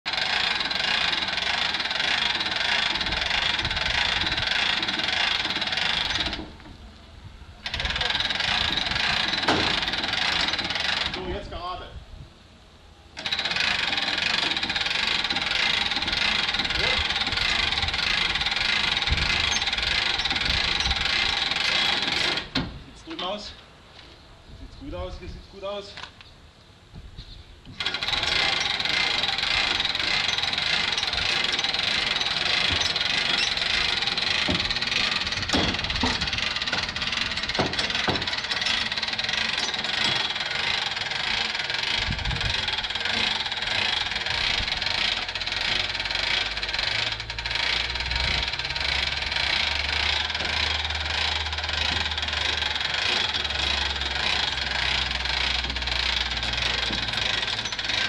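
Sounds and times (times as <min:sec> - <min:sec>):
winch rattling: 0:00.1 - 0:06.8, 0:07.6 - 0:11.4, 0:13.2 - 0:23.4, 0:27.7 - 0:58.0.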